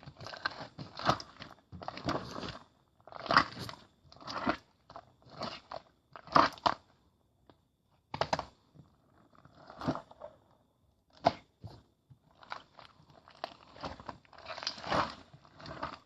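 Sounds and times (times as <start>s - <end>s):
crunchy food being chewed: 0.0s - 7.0s, 8.2s - 11.5s, 12.3s - 16.0s.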